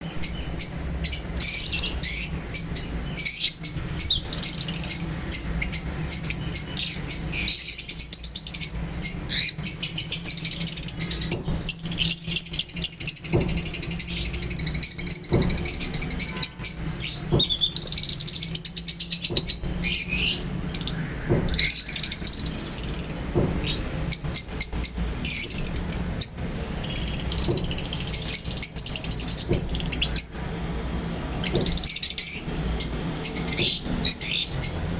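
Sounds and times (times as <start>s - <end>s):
parrots chirping and chattering: 0.0s - 34.9s.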